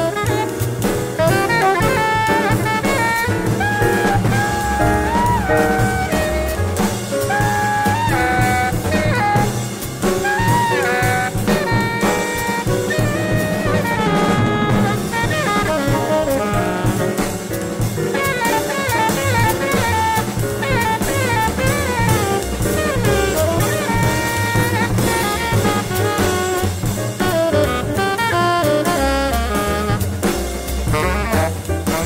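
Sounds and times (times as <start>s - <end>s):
drum kit: 0.0s - 32.0s
jazz saxophone melody: 0.0s - 32.0s
low walking bass line: 0.9s - 17.0s, 19.6s - 32.0s.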